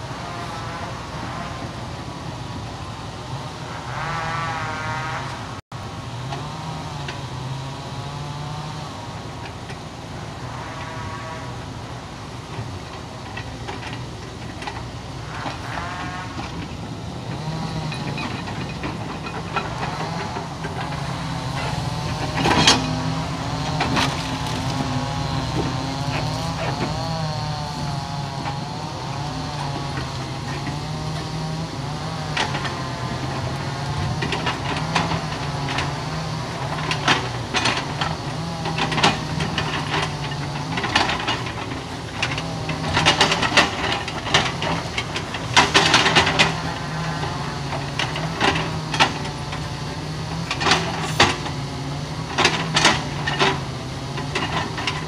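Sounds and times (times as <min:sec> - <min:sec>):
diesel engine under load: 0:00.0 - 0:55.0
hydraulics whining: 0:00.0 - 0:55.0.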